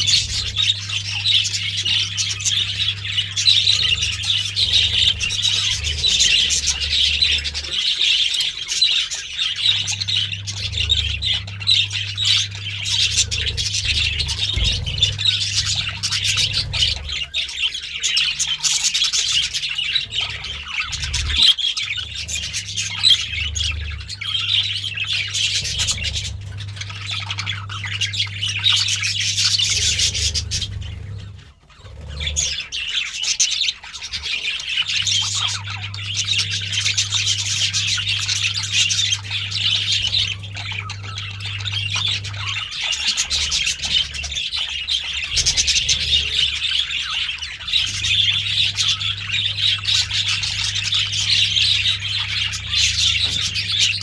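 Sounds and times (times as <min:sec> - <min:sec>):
budgerigars chirping and squawking: 0:00.0 - 0:54.0
steady low hum: 0:00.0 - 0:54.0.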